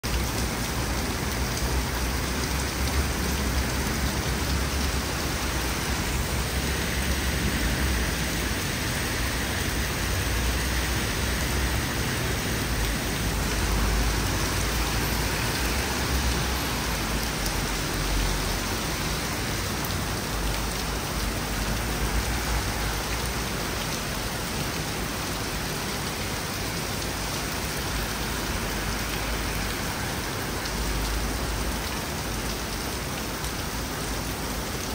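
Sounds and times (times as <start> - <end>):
torrential rain on street: 0.0 - 34.9.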